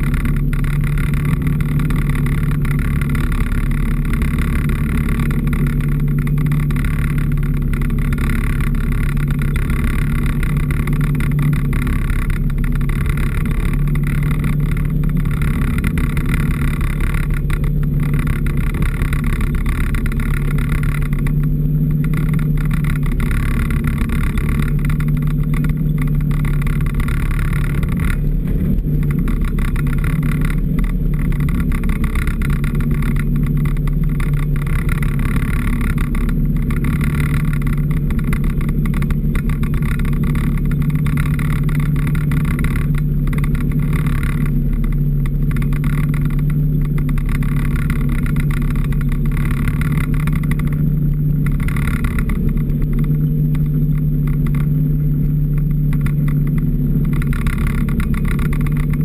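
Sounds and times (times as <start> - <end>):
off-road vehicle engine humming: 0.0 - 59.0.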